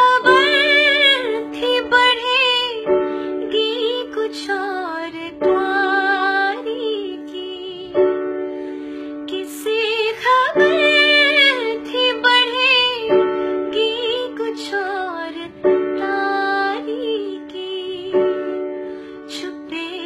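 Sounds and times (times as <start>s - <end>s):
woman singing: 0.0s - 8.4s, 9.1s - 20.0s.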